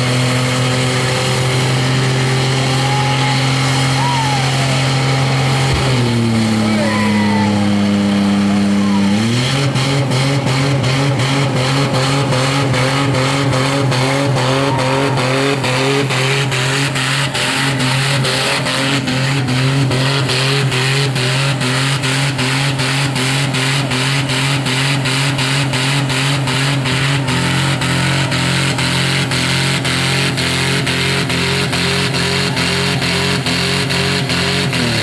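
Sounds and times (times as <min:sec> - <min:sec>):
car engine at high revs: 0:00.0 - 0:35.0.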